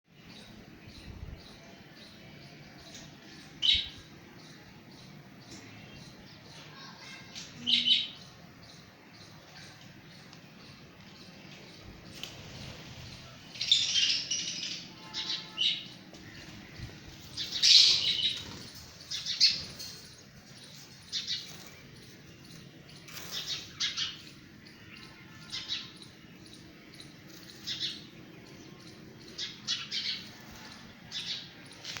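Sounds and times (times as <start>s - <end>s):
lovebirds chirping and squawking: 2.5s - 32.0s.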